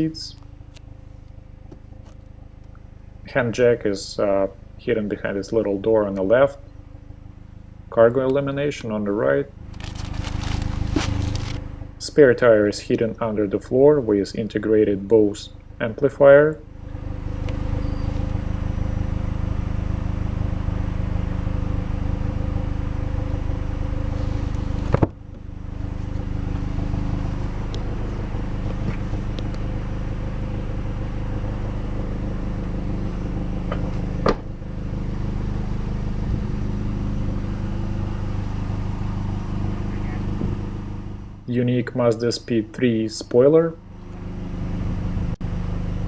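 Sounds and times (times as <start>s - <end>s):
car engine idling: 0.0s - 41.4s.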